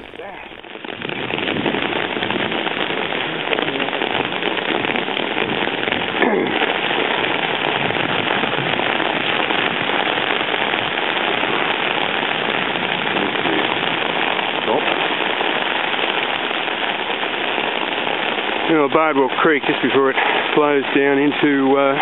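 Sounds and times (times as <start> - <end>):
heavy rain on an umbrella: 0.0 - 22.0.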